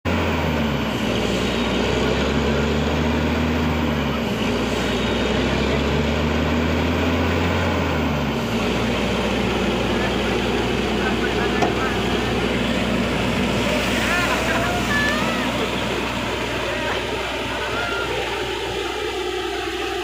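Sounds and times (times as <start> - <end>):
drilling rig engine running: 0.0 - 20.0.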